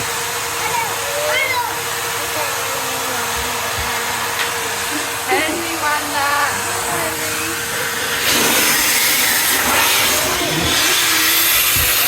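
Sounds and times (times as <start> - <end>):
rushing airflow hiss: 0.0 - 12.0
vacuum cleaner motor whine: 0.0 - 12.0.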